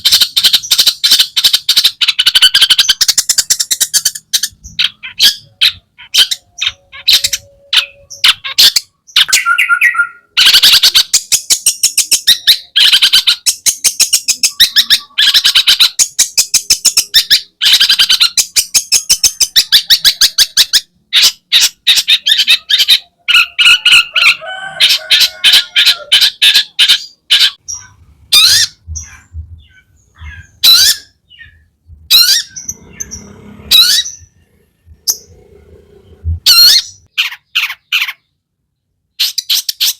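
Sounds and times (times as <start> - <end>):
shrike chattering song: 0.0 - 38.3.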